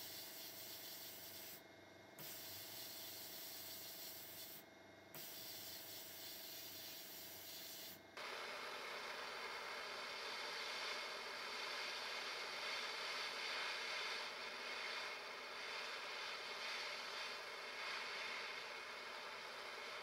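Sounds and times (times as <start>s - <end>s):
gas torch flame hissing: 0.0s - 1.6s, 2.2s - 4.6s, 5.2s - 20.0s
sandblasting gun hissing: 0.0s - 1.6s, 2.2s - 4.6s, 5.2s - 8.0s, 10.4s - 20.0s.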